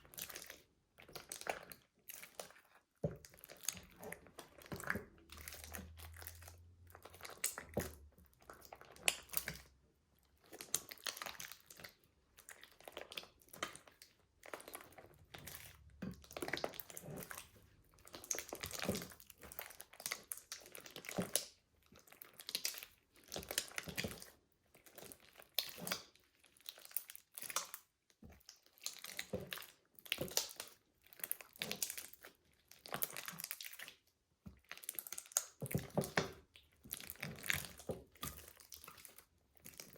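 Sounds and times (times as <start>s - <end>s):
slime squelching by hand: 0.0s - 39.9s.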